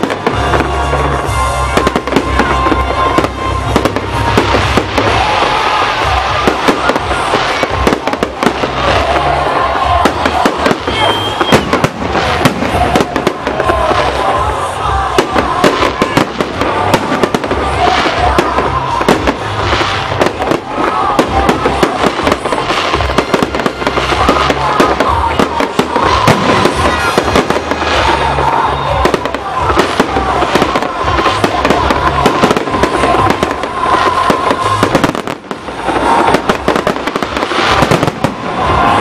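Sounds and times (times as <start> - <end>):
fireworks bursting: 0.0 - 39.0
music playing: 0.0 - 39.0.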